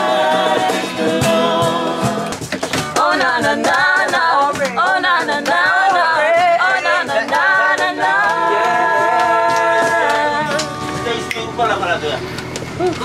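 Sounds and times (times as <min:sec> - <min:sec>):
group singing a cappella: 0:00.0 - 0:11.6.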